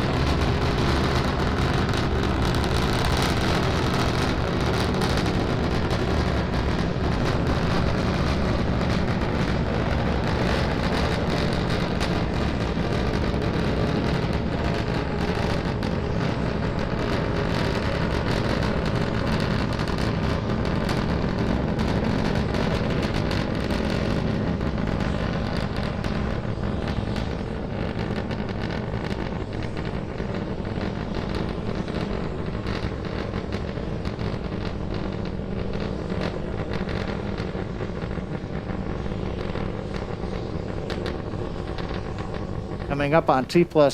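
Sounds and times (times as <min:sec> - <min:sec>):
rocket engines rumbling: 0:00.0 - 0:43.9.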